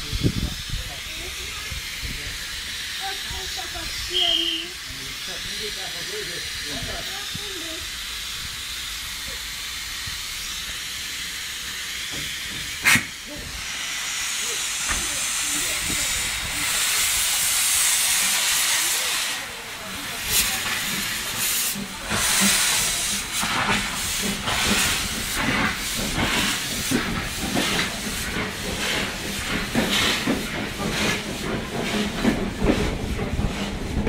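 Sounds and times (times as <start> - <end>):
steam hissing: 0.0 - 34.0
steam locomotive chuffing: 0.0 - 34.0.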